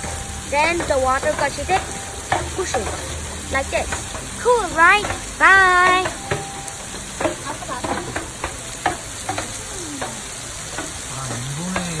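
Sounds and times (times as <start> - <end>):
water splashing onto stone: 0.0 - 12.0
bamboo tubes knocking: 0.7 - 12.0.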